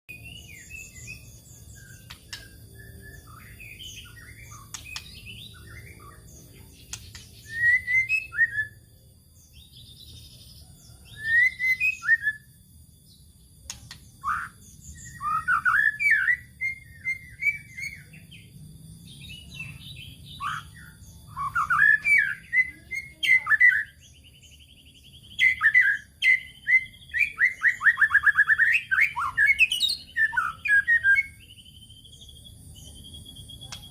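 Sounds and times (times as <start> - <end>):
songbird whistling and rattling: 0.1 - 8.8, 10.9 - 12.6, 13.6 - 18.2, 19.6 - 23.9, 25.3 - 33.9.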